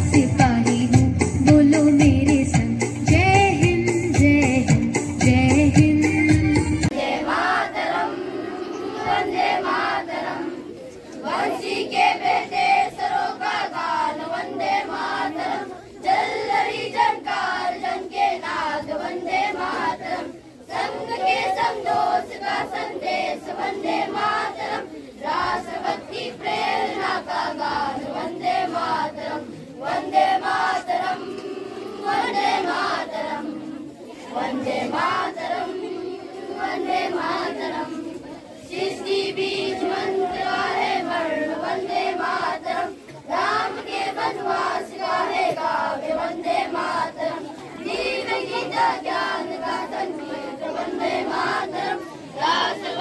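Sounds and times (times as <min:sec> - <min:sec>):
children's choir singing in unison: 0:00.0 - 0:53.0.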